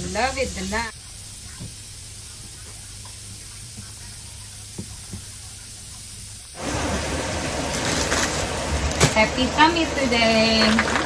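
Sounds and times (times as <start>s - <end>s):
loud rushing hiss: 0.0s - 10.6s.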